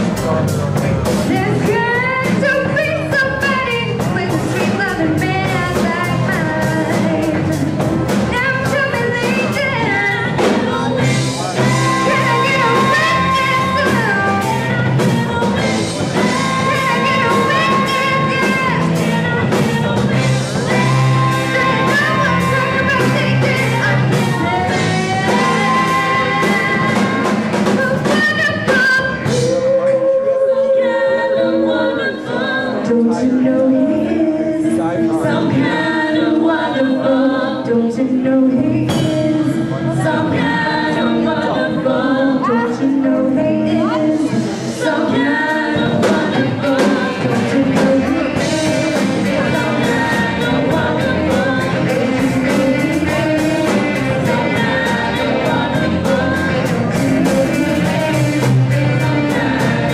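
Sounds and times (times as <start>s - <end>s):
soul band playing: 0.0s - 59.9s
saxophone: 1.3s - 59.9s
woman singing with vibrato: 1.3s - 59.9s.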